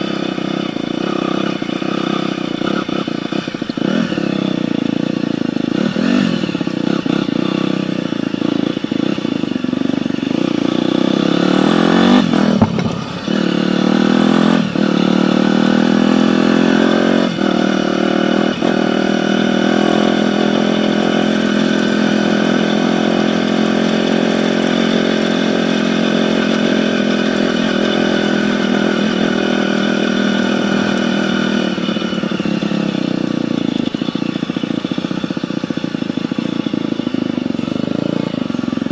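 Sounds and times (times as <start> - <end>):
dirt bike engine running hard: 0.0 - 38.9.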